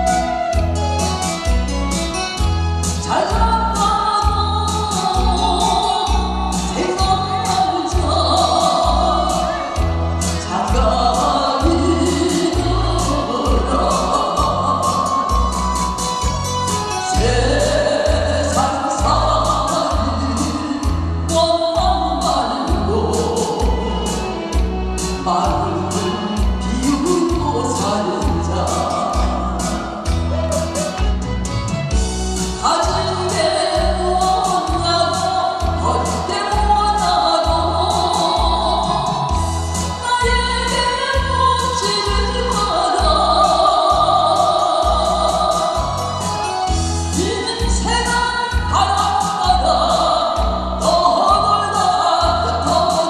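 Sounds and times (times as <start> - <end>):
woman singing into a microphone: 0.0 - 1.4, 2.9 - 30.2, 32.4 - 53.0
amplified backing music: 0.0 - 53.0.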